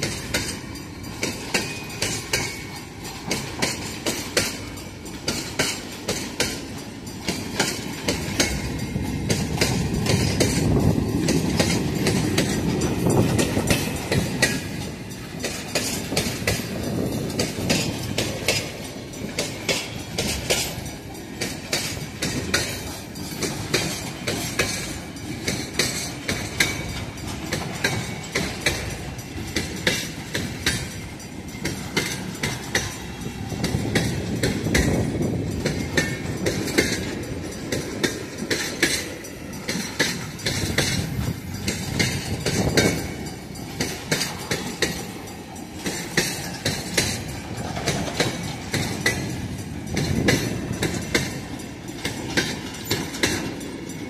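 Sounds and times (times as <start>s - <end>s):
low train rumble: 0.0s - 54.0s
train wheels clicking over rail joints: 0.0s - 54.0s.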